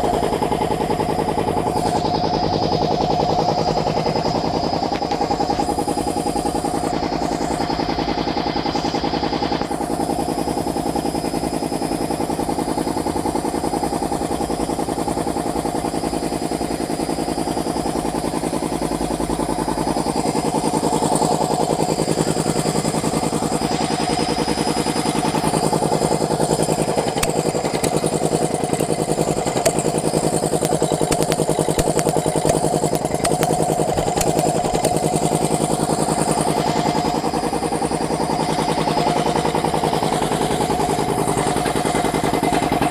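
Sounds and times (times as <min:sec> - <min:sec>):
air compressor pulsing hum: 0:00.0 - 0:42.9.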